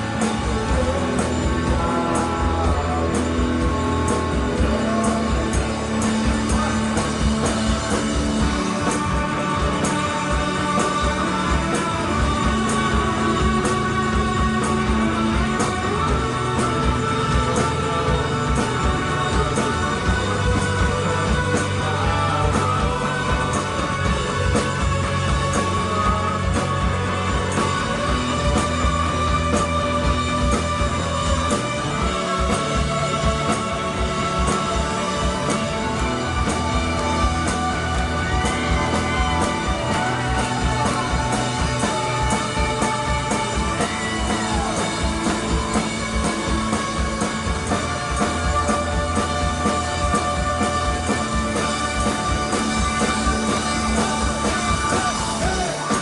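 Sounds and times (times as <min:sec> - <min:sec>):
drums steady beat: 0:00.0 - 0:56.0
electric guitar: 0:00.0 - 0:56.0
repeating bass line: 0:00.0 - 0:56.0
rock band jamming: 0:00.0 - 0:56.0.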